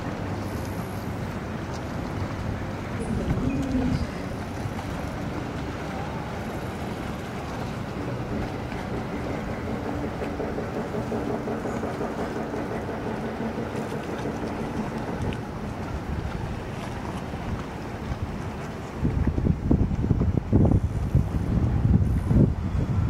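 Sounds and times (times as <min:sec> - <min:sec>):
low engine hum: 0:00.0 - 0:23.0
outdoor background noise: 0:00.0 - 0:23.0.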